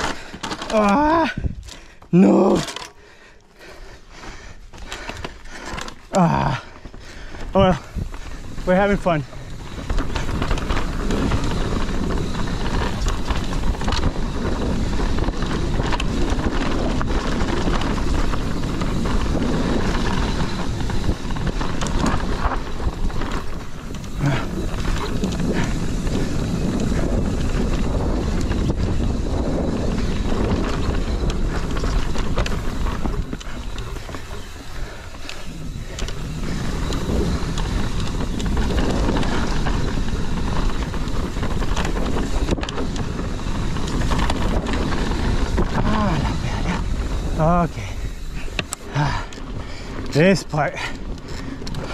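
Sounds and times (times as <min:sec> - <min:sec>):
wind on microphone: 0:00.0 - 0:02.6, 0:04.3 - 0:51.9
bike rattling over bumps: 0:00.0 - 0:51.9
tyres rolling over dirt and rocks: 0:00.0 - 0:51.9.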